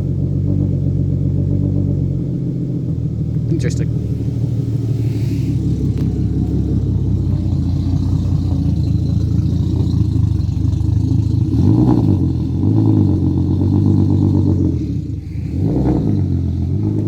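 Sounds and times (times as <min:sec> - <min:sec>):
car engine running unevenly: 0:00.0 - 0:17.0.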